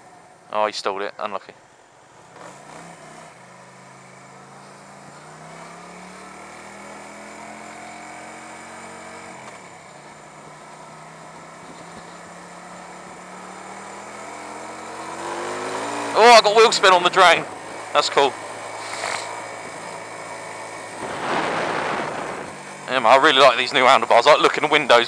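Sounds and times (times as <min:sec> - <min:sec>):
motorcycle engine accelerating: 0:02.0 - 0:25.0.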